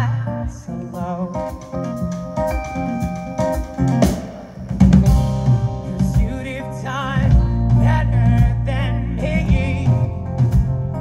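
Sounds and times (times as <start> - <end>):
person singing: 0.0 - 4.1, 5.6 - 10.5
guitars playing: 0.0 - 11.0
drum kit playing: 0.4 - 11.0.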